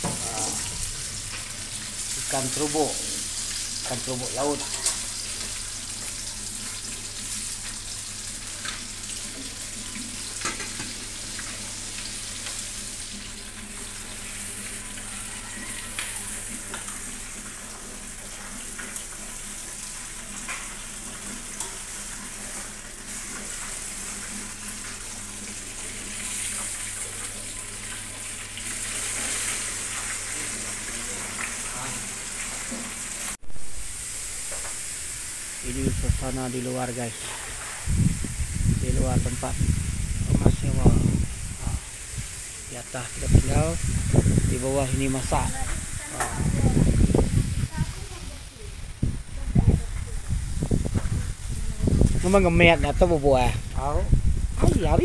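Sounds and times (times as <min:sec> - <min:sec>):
food sizzling in frying pan: 0:00.0 - 0:55.0.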